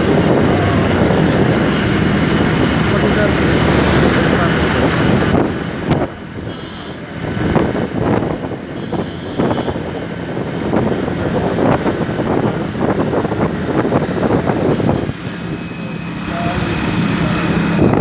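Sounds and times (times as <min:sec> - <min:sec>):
motorbike engine: 0:00.0 - 0:18.0
road noise: 0:00.0 - 0:18.0
wind buffeting microphone: 0:00.0 - 0:18.0.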